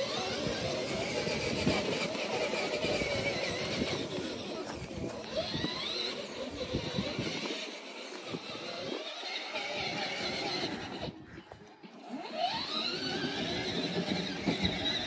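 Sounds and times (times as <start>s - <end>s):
electric toy truck motor whining: 0.0s - 11.3s, 11.9s - 15.0s
second ride-on toy motor: 0.0s - 15.0s.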